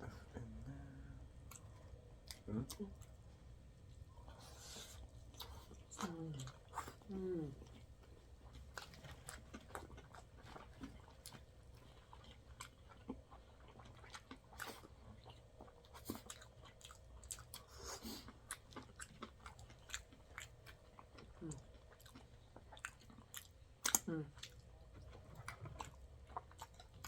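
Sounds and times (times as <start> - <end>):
people chewing soft food: 0.0 - 27.0.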